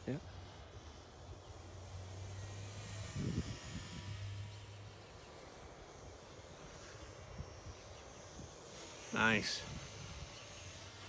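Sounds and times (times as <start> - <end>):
distant model plane motor whine: 0.0 - 11.0
light outdoor noise: 0.0 - 11.0.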